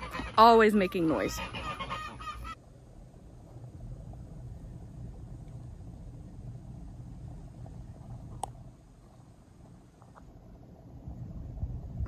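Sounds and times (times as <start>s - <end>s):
low steady rumble with faint hum: 0.0s - 12.0s
outdoor ambience: 0.0s - 12.0s.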